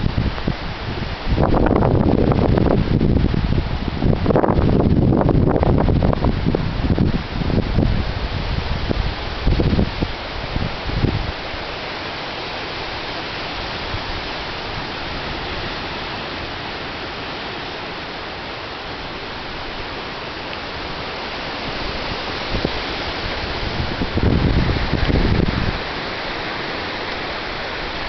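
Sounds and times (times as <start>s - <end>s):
wind buffeting microphone: 0.0s - 11.7s, 12.5s - 28.0s
storm wind rushing through trees: 0.0s - 28.0s.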